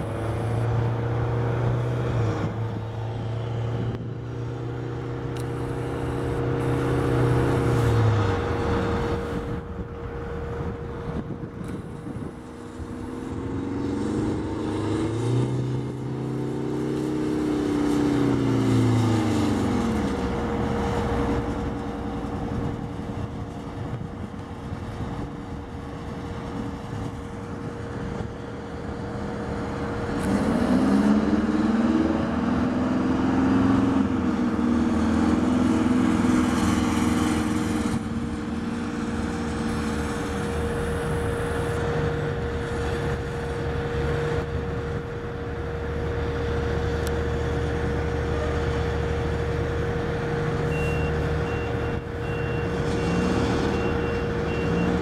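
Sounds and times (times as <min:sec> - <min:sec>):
fire trucks driving past: 0:00.0 - 0:55.0.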